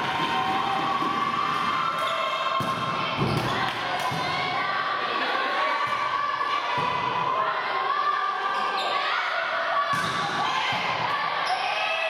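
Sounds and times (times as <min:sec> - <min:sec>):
people shouting and cheering: 0:00.0 - 0:12.0.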